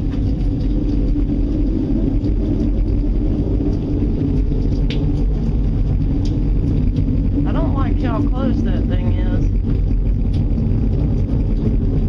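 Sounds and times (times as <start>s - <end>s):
deep droning rumble: 0.0s - 12.0s.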